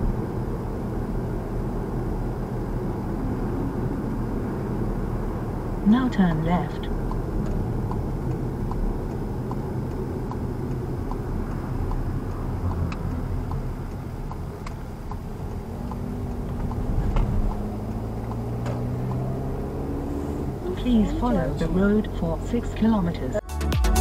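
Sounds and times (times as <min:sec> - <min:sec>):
turn signal ticking: 0:00.0 - 0:23.4
car engine and road noise: 0:00.0 - 0:24.0.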